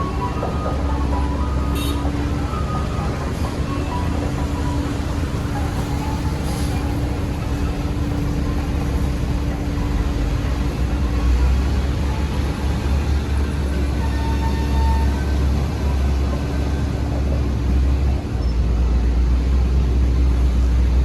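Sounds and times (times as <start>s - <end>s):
diesel machinery rumbling: 0.0s - 21.0s.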